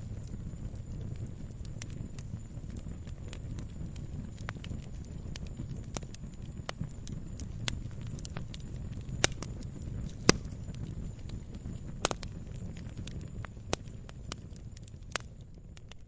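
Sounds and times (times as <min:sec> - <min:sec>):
crackles and pops of burning logs: 0:00.0 - 0:16.0
rumble of flames: 0:00.0 - 0:16.0.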